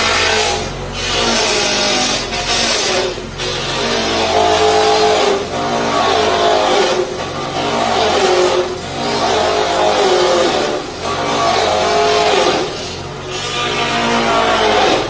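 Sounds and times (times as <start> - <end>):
small petrol engine labouring: 0.0 - 15.0.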